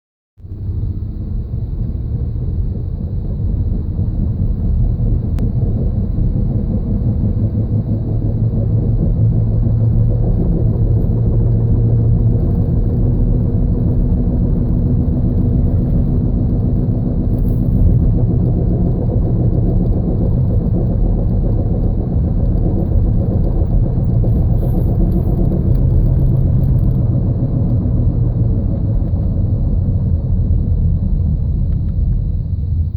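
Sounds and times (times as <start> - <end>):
low grinding rumble from van: 0.4 - 32.9.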